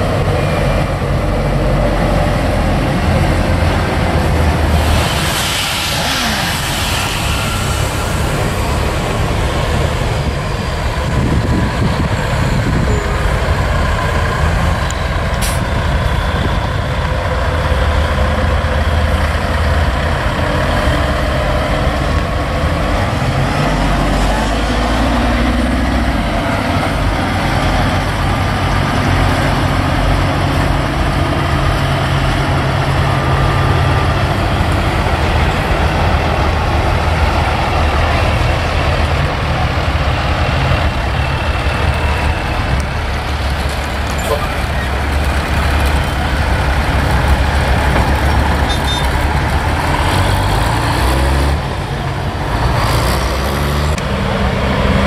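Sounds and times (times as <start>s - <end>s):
truck diesel engines rolling past: 0.0s - 55.0s.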